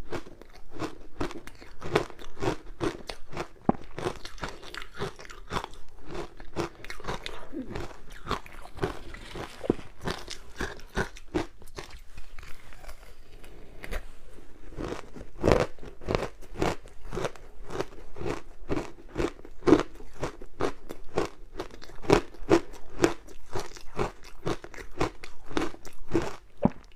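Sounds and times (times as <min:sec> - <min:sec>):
ice crunching being chewed: 0:00.0 - 0:26.9.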